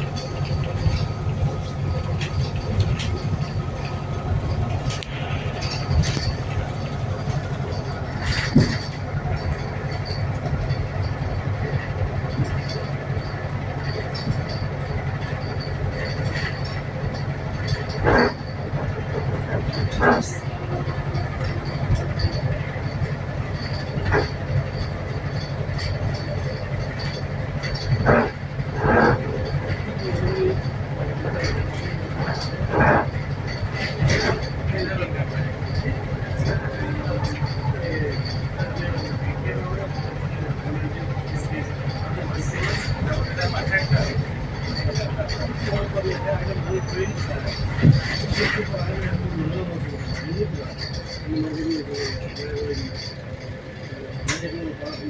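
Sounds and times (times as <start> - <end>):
bus engine low rumble: 0.0 - 55.0
light clicks and rattles: 0.0 - 55.0.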